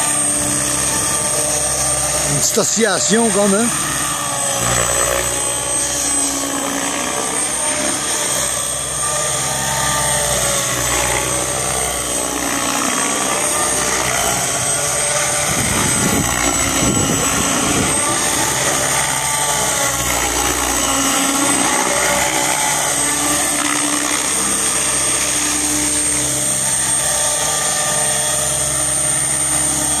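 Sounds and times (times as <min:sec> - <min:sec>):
model helicopter rotor whir: 0:00.0 - 0:30.0.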